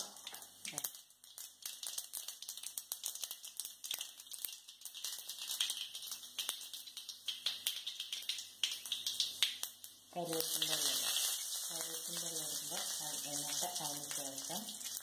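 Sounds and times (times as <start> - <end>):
seeds spluttering in hot oil: 0.0 - 15.0.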